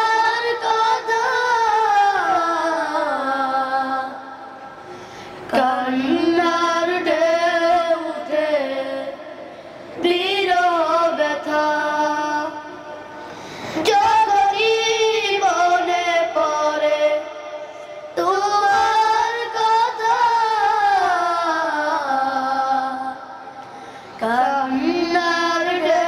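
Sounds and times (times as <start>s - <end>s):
boys singing together: 0.0s - 4.3s, 5.5s - 9.3s, 10.0s - 12.6s, 13.8s - 17.5s, 18.2s - 23.3s, 24.2s - 26.0s.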